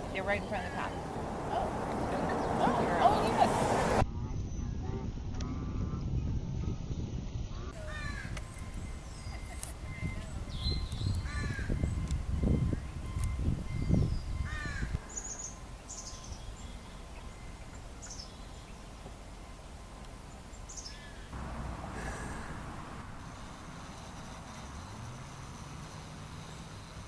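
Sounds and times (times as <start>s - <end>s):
birds chirping: 0.0s - 4.0s, 7.6s - 19.1s, 20.2s - 27.0s.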